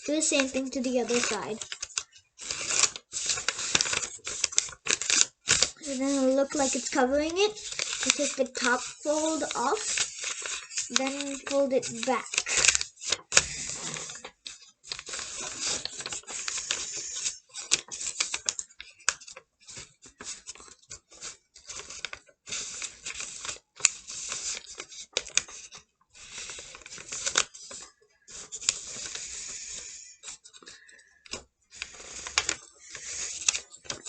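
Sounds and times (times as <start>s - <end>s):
paper rustling and crackling: 0.0s - 34.0s.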